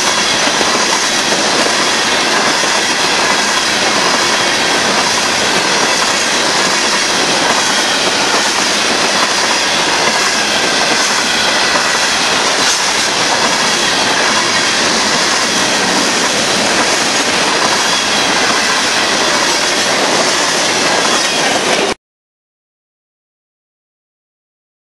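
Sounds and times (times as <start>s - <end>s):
train wheels rolling on rails: 0.0s - 22.0s.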